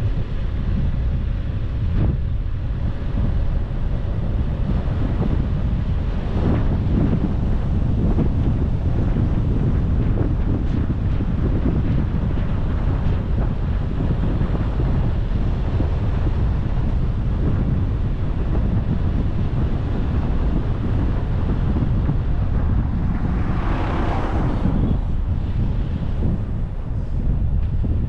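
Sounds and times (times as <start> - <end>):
car low rumble: 0.0 - 28.0
wind buffeting microphone: 0.0 - 28.0.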